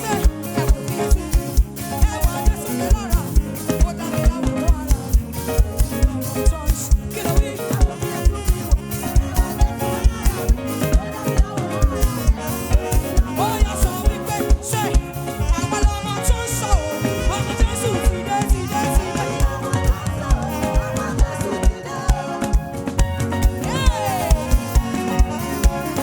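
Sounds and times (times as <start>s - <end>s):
driving drum beat: 0.0s - 26.0s
live gospel band playing: 0.0s - 26.0s.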